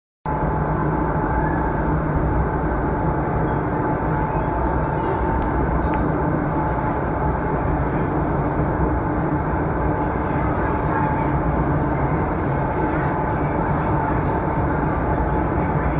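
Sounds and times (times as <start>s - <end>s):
wind tunnel air and fan noise: 0.3s - 15.9s.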